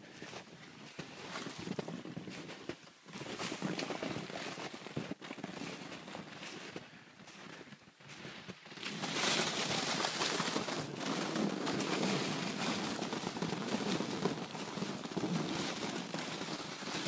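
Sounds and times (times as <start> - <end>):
sled scraping through snow: 0.1 - 6.8, 7.5 - 17.0
footsteps crunching in snow: 0.1 - 17.0.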